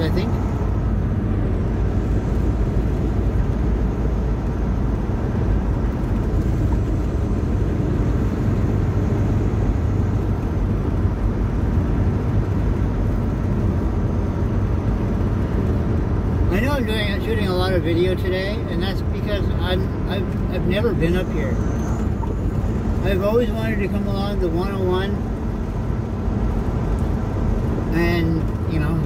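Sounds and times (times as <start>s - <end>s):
truck engine and road drone: 0.0s - 29.0s.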